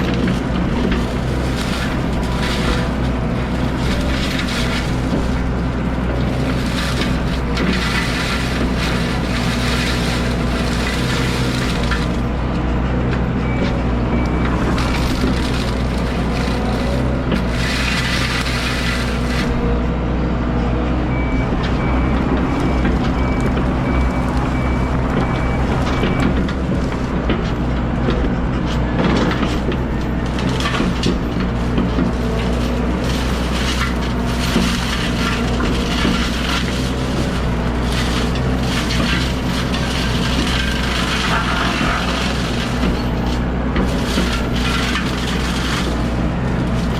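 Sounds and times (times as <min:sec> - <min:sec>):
heavy machine engine running: 0:00.0 - 0:46.9
mulcher grinding wood: 0:00.0 - 0:46.9.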